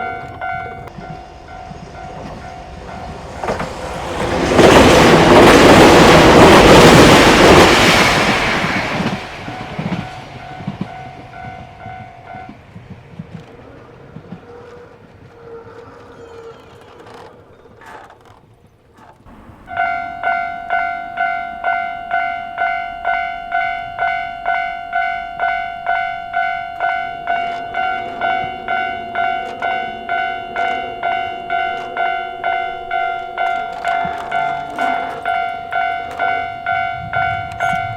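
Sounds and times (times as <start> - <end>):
level-crossing warning bell: 0.0 - 17.8, 19.3 - 37.9.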